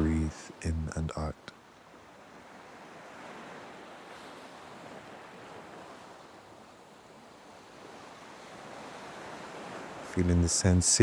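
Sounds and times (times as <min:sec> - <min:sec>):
ocean waves washing on shore: 0:00.0 - 0:11.0.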